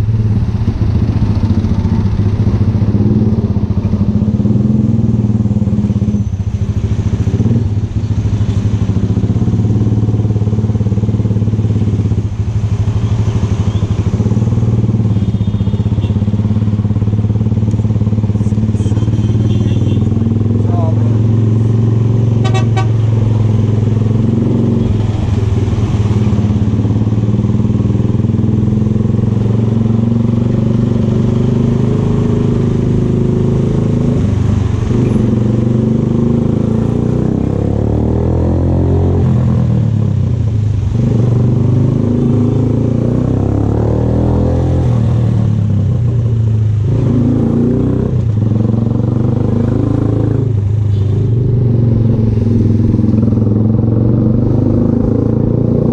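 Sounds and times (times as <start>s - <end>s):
motorcycle engine running: 0.0s - 38.0s, 39.1s - 55.9s.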